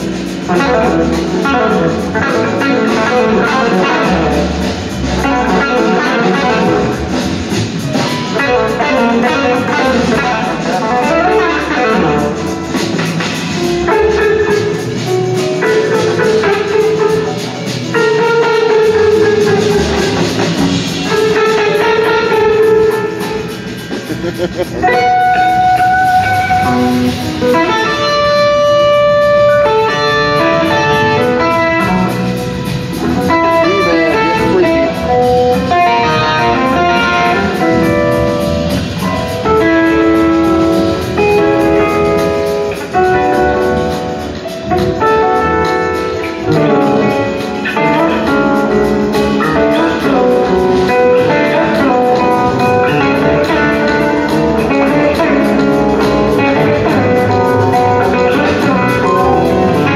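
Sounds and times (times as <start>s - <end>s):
bass: 0.0s - 59.9s
drums: 0.0s - 59.9s
electric guitar: 0.0s - 59.9s.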